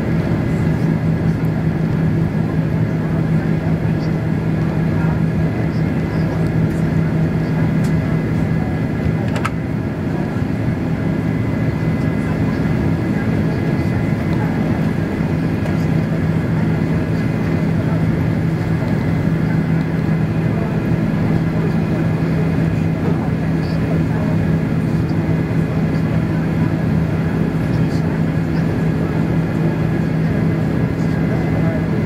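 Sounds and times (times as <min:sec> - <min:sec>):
jet engine cabin drone: 0:00.0 - 0:32.0.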